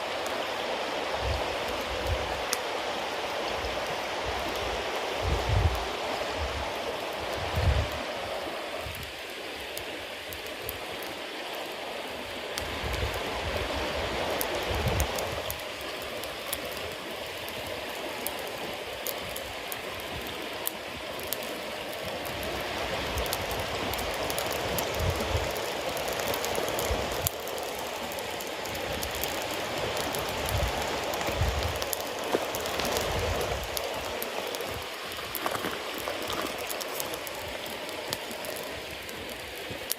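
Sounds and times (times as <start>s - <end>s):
bonfire hissing: 0.0s - 39.9s
fire crackles and pops: 0.0s - 39.9s.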